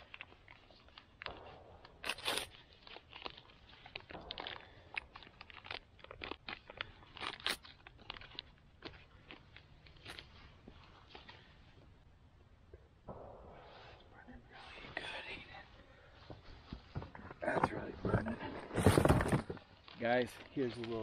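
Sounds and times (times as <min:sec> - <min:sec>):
kindling snapping and crackling: 0:00.0 - 0:11.6, 0:13.0 - 0:21.0.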